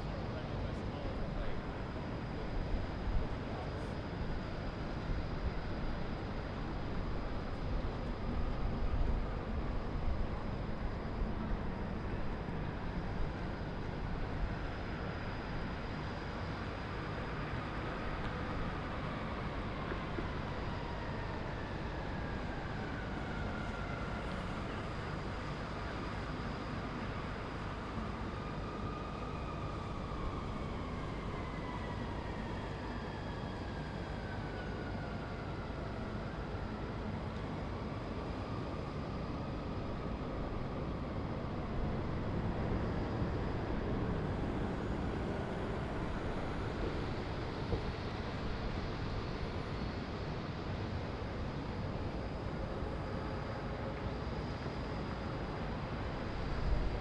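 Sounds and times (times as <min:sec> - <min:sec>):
distant city traffic hum: 0:00.0 - 0:57.0
faint descending whine: 0:00.0 - 0:57.0.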